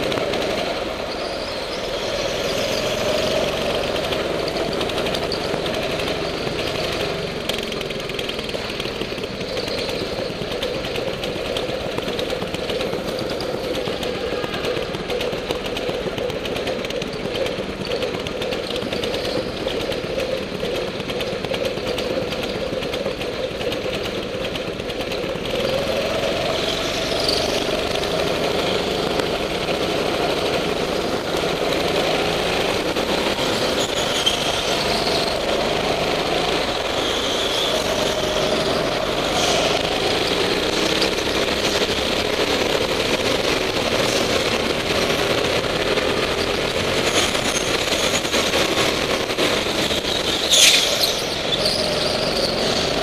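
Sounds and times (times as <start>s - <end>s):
go-kart engine revving: 0.0s - 53.0s
other go-kart engines: 0.0s - 53.0s.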